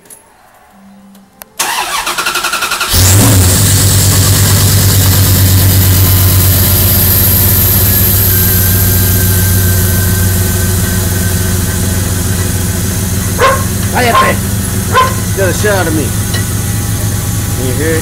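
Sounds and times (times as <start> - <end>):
car engine idling: 1.6 - 18.0.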